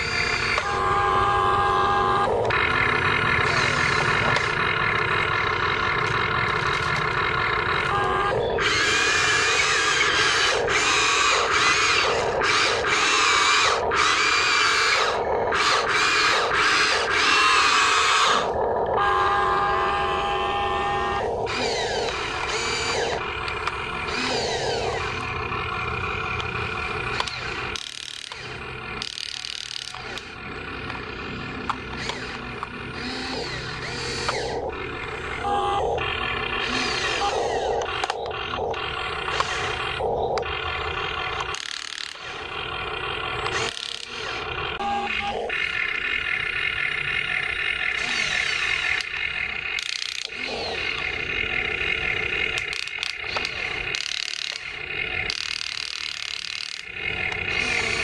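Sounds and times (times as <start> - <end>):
electric motors whining: 0.0 - 58.0.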